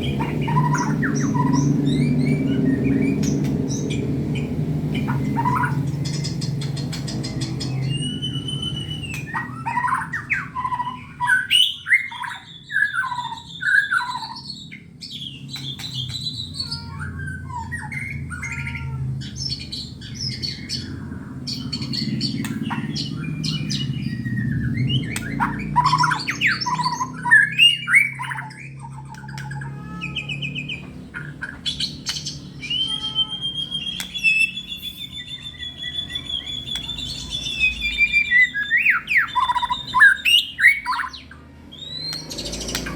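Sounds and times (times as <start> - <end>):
songbird whistling and chattering: 0.0 - 42.9.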